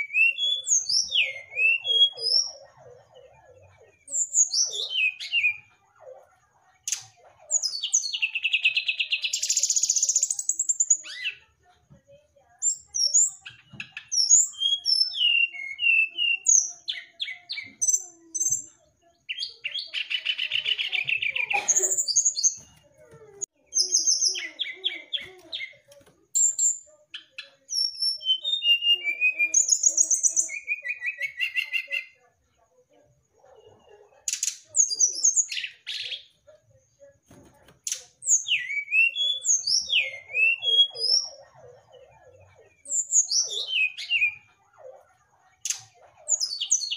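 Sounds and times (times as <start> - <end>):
songbird singing: 0.0 - 11.6, 12.6 - 32.4, 37.3 - 46.9.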